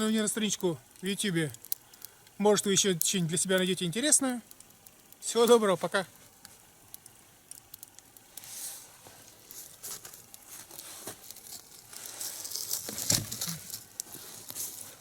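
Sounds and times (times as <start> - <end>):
log fire hissing and crackling: 0.0 - 15.0.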